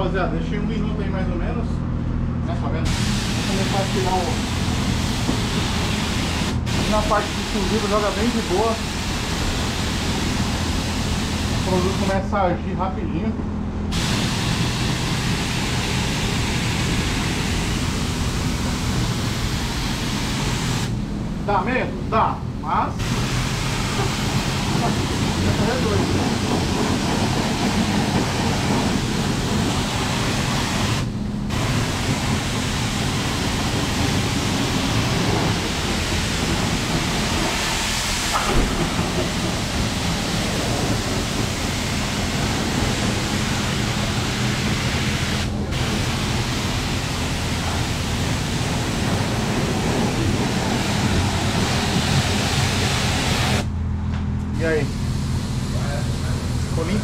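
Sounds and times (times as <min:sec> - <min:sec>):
low hum: 0:00.0 - 0:57.0
pressure washer spraying water: 0:02.9 - 0:12.3, 0:13.9 - 0:21.0, 0:23.0 - 0:53.7, 0:54.6 - 0:57.0.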